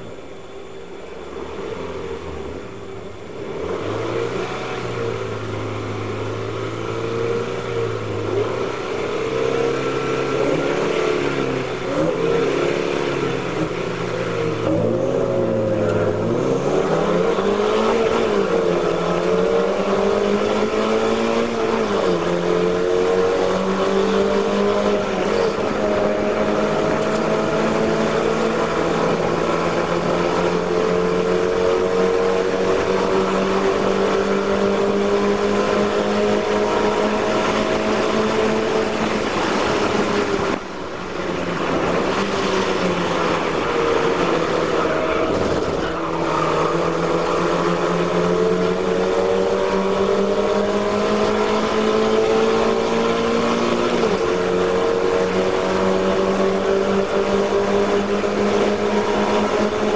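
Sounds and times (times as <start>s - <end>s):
race car engine revving: 3.4s - 59.9s.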